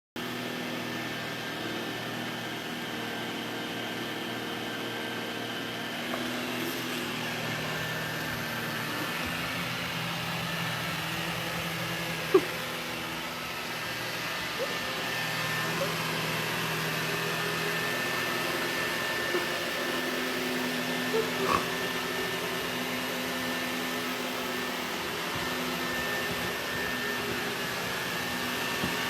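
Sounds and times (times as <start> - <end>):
robot vacuum humming: 0.2 - 29.0.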